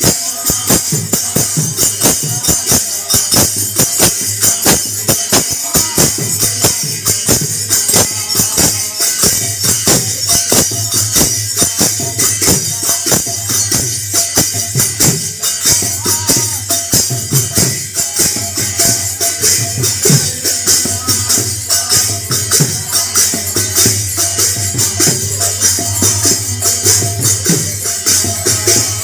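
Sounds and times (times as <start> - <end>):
hand cymbals clashing: 0.0 - 29.0.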